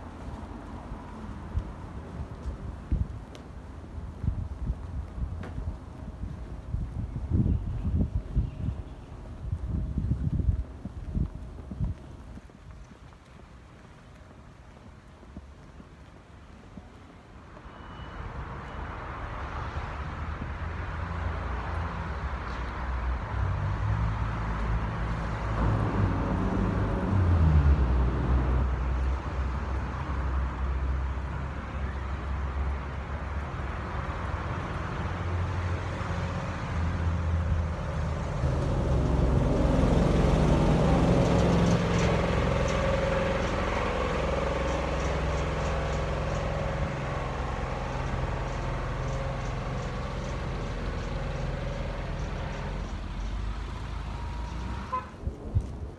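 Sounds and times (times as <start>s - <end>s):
vehicle engines passing: 0.0s - 55.9s.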